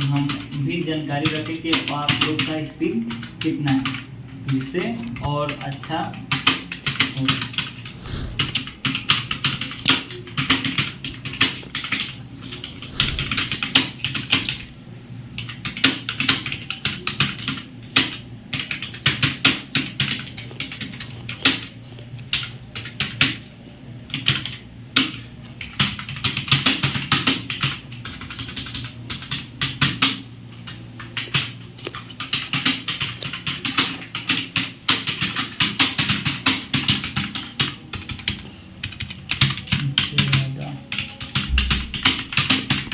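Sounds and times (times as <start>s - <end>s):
fast keyboard typing: 0.0s - 14.7s, 15.4s - 23.5s, 24.1s - 42.9s.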